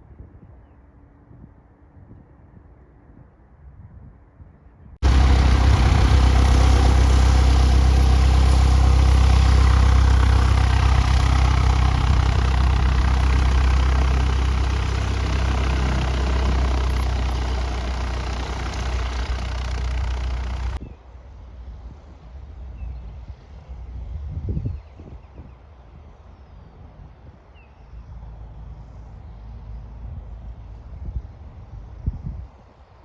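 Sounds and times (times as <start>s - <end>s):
light aircraft engine and propeller: 0.0s - 33.0s.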